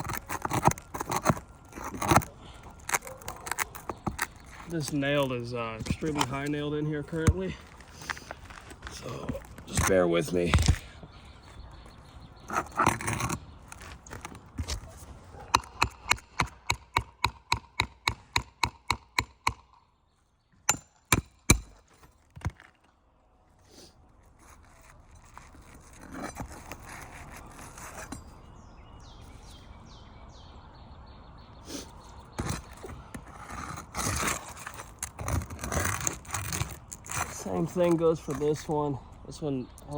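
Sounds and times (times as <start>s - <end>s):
tool scraping shingles: 0.0s - 19.7s, 20.7s - 23.0s, 24.2s - 28.5s, 31.7s - 39.0s.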